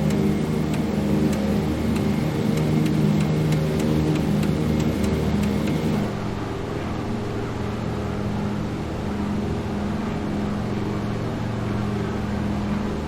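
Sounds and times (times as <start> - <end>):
radial piston engines droning: 0.0 - 13.0.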